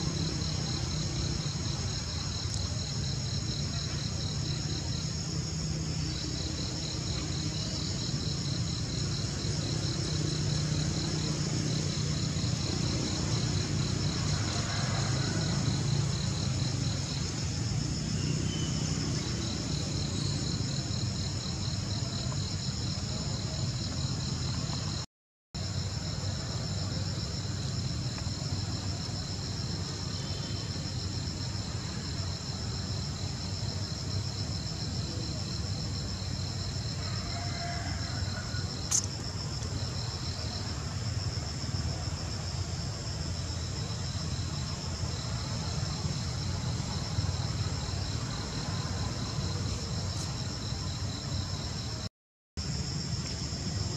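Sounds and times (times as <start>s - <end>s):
insects trilling: 0.0s - 25.0s, 25.6s - 52.0s.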